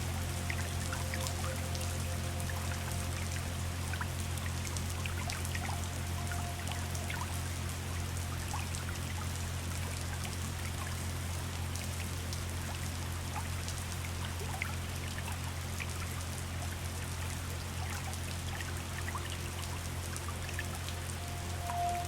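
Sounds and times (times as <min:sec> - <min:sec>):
river water flowing: 0:00.0 - 0:22.0
soft relaxation music drone: 0:00.0 - 0:22.0.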